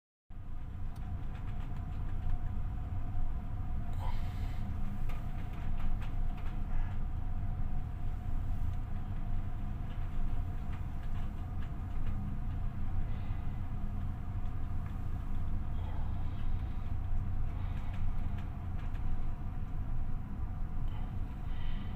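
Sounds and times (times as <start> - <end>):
ship engine droning: 2.0 - 21.9.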